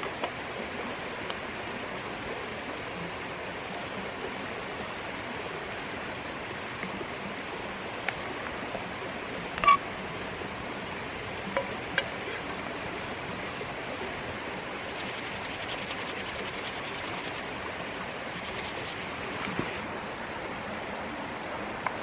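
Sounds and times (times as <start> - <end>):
creek water flowing over stones: 0.0 - 22.0.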